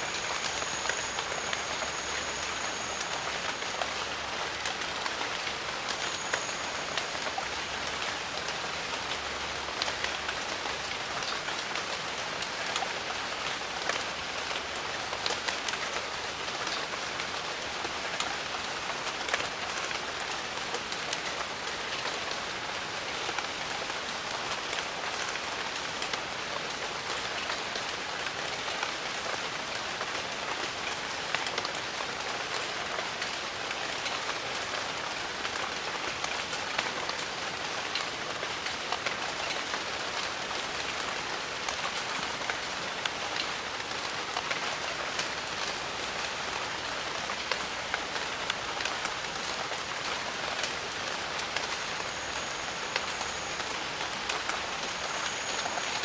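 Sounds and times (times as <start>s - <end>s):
rain falling: 0.0s - 22.7s, 24.6s - 56.0s.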